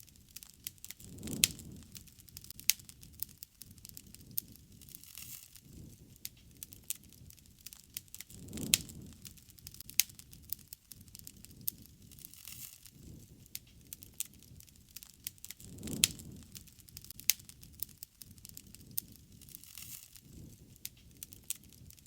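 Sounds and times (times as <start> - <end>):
bonfire crackling and popping: 0.0 - 22.0
low rush of flame: 0.0 - 22.0.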